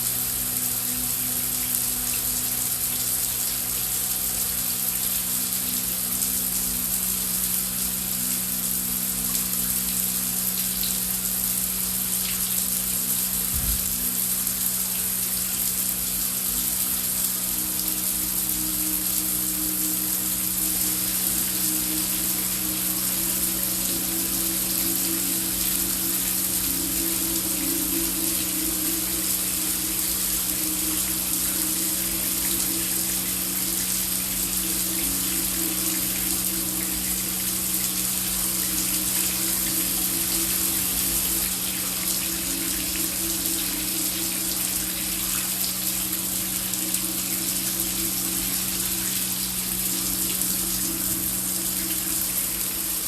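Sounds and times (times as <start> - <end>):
heavy rain: 0.0 - 53.0
low background drone: 0.0 - 53.0.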